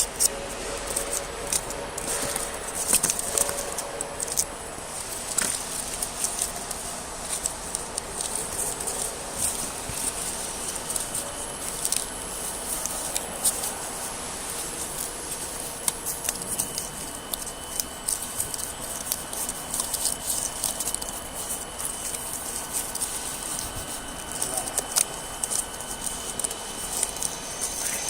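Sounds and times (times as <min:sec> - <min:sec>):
blade ticking and scratching cardboard: 0:00.0 - 0:28.0
machine high whine: 0:00.0 - 0:28.0.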